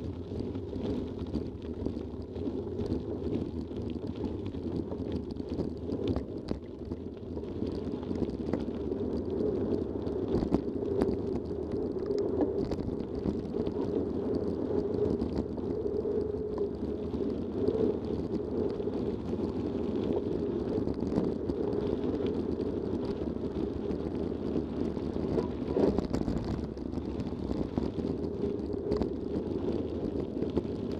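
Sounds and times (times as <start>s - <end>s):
bike tyres rumbling on gravel: 0.0s - 30.9s
wind on microphone: 0.0s - 30.9s.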